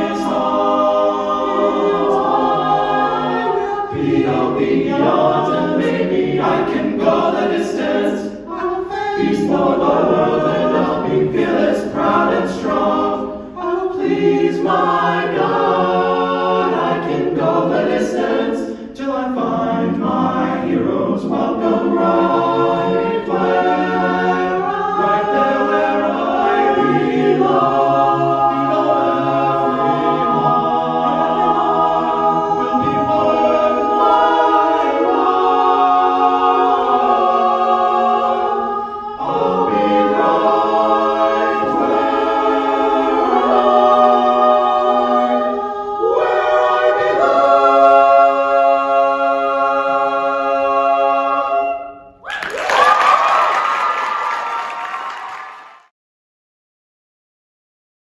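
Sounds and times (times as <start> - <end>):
vocal group singing in harmony: 0.0 - 55.9.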